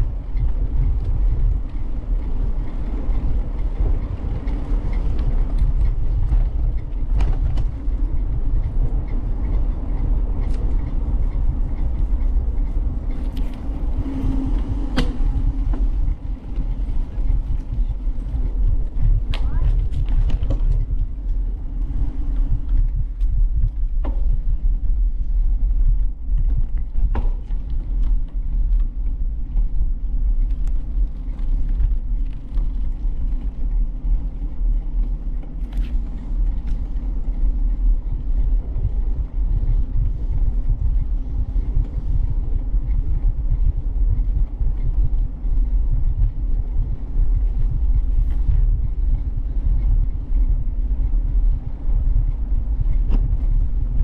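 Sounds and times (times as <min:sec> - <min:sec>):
bicycle riding rumble: 0:00.0 - 0:54.0.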